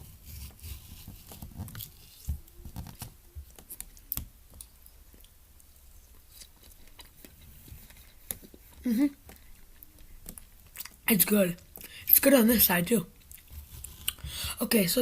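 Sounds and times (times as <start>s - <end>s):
soft chewing: 0.4s - 12.0s, 13.1s - 14.3s.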